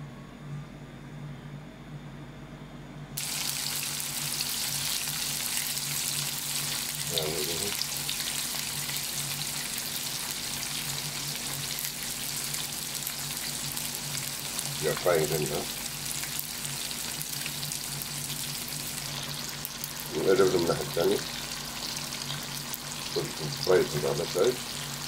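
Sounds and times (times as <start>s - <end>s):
low steady hum: 0.0s - 25.0s
fish sizzling in a frying pan: 3.2s - 25.0s.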